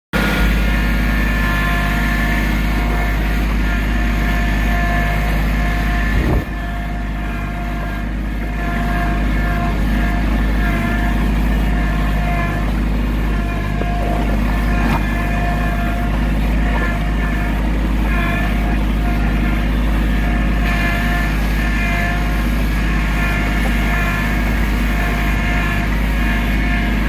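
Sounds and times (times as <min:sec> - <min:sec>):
tractor engine running: 0:00.1 - 0:27.0.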